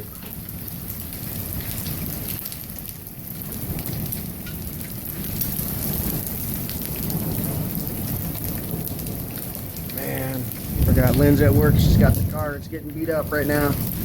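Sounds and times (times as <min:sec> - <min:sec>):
hail strikes ticking: 0:00.0 - 0:14.0
low thunder rumble: 0:00.0 - 0:14.0
torrential rain: 0:00.0 - 0:14.0.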